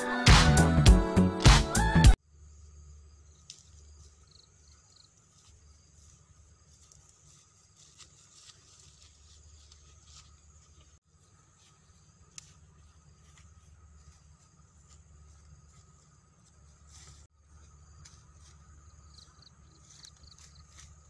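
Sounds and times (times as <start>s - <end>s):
high insect drone: 2.2s - 21.0s
footsteps through grass: 3.4s - 21.0s.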